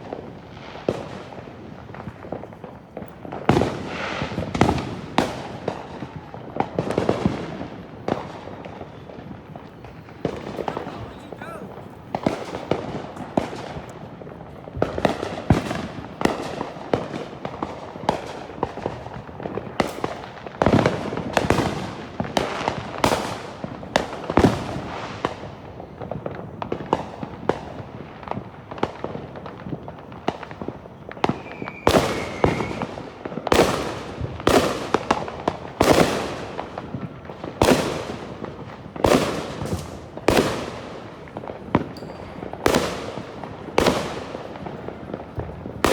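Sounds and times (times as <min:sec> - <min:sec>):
fireworks bangs echoing: 0:00.0 - 0:45.9.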